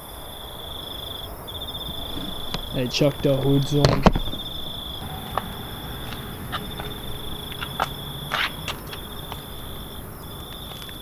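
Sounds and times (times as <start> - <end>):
cricket trilling: 0.0 - 11.0.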